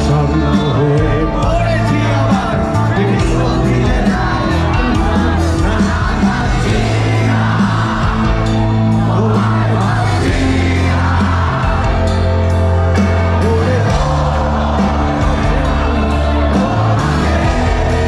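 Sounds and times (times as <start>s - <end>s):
crowd shouting and whooping: 0.0s - 18.0s
live band with singer: 0.0s - 18.0s.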